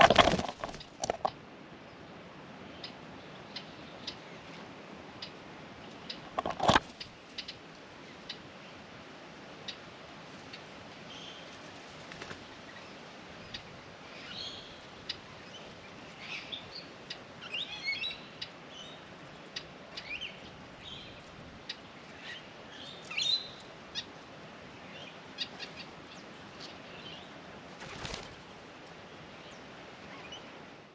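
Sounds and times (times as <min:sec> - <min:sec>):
birds chirping: 0:00.0 - 0:02.1, 0:02.7 - 0:08.8, 0:09.6 - 0:28.3.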